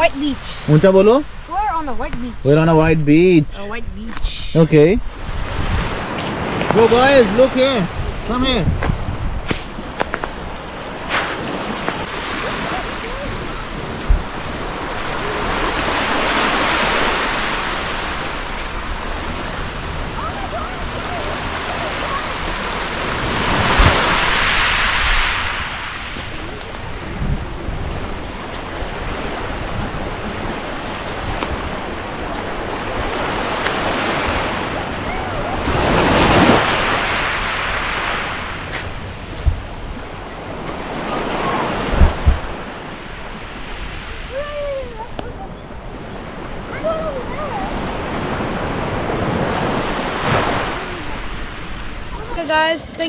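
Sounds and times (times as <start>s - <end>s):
sea waves breaking on beach: 0.0s - 53.0s.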